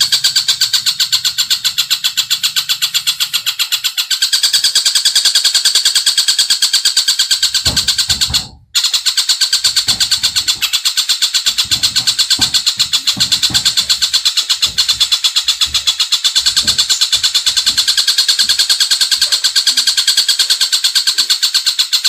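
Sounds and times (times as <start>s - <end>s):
bird trilling high notes: 0.0s - 21.6s.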